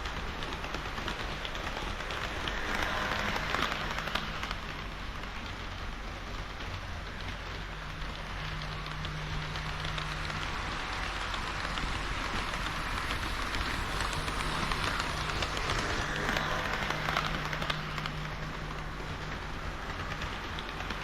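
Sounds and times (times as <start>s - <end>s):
model train wheels hissing on rail: 0.0s - 21.0s
rail joint clicks: 0.0s - 21.0s.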